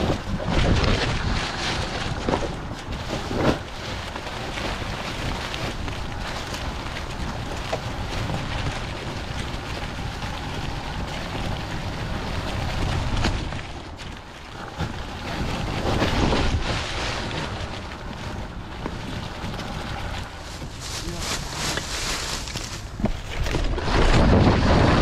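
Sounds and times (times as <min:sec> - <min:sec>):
tyres rolling through wet leaves: 0:00.0 - 0:25.0
wind buffeting microphone: 0:00.0 - 0:25.0.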